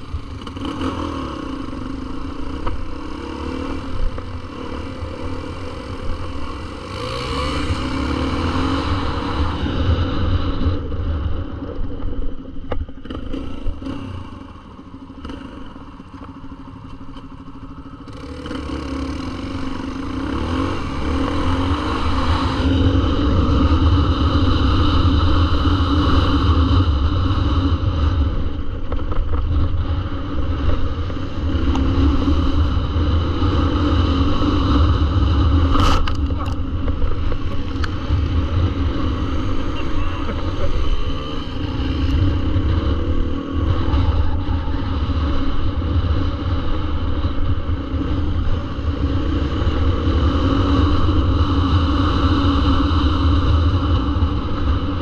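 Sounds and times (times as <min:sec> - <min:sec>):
dirt bike engine revving: 0:00.0 - 0:10.8, 0:12.9 - 0:28.5, 0:29.6 - 0:55.0.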